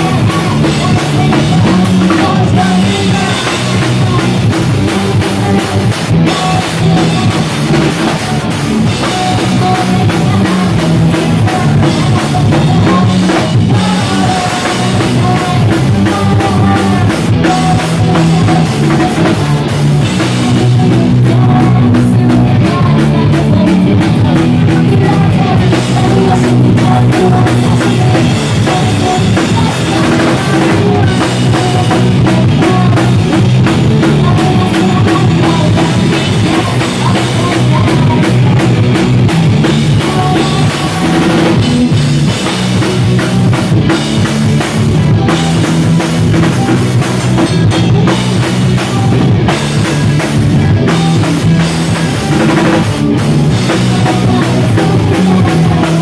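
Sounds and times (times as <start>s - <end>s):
drum kit driving beat: 0.0s - 56.0s
pop-punk band playing live: 0.0s - 56.0s.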